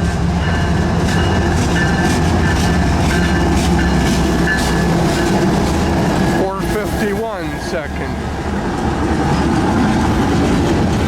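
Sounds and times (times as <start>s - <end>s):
train wheels clicking over rail joints: 0.0s - 7.8s, 8.5s - 11.0s
diesel locomotive drone: 0.0s - 11.0s.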